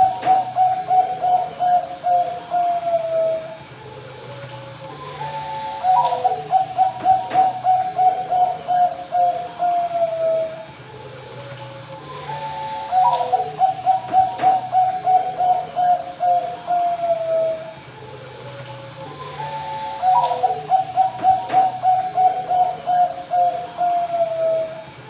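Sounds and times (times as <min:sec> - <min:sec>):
dove cooing: 0:00.0 - 0:25.0.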